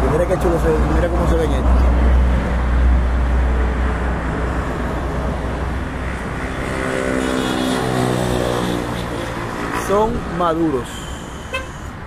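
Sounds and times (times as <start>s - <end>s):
vehicle engine drone: 0.0s - 12.0s
vehicle passing with deep rumble: 0.0s - 12.0s.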